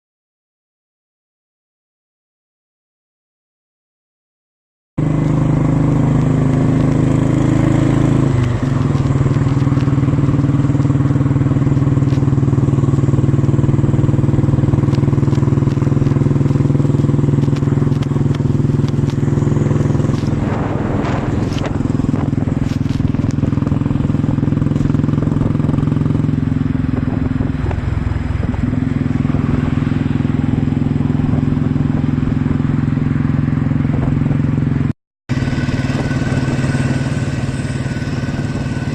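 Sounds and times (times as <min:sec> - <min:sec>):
motorcycle engine running: 0:05.0 - 0:38.9.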